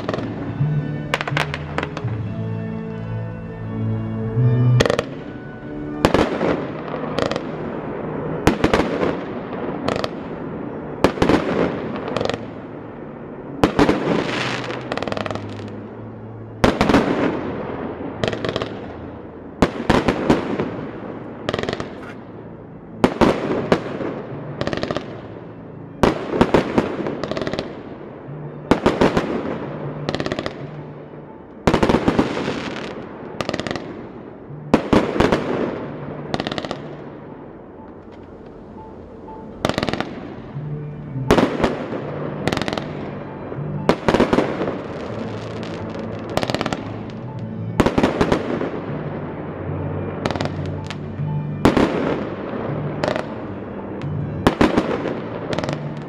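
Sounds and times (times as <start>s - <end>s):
fireworks bursting: 0.0s - 3.1s, 4.8s - 56.0s.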